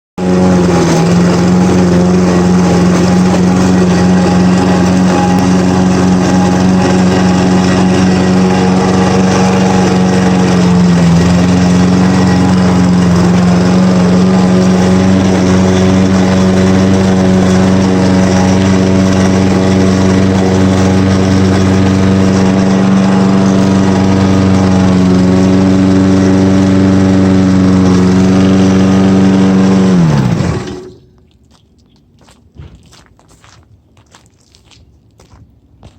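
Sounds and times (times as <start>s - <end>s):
grinding noise: 0.2s - 31.1s
lawn mower engine running: 0.2s - 31.2s.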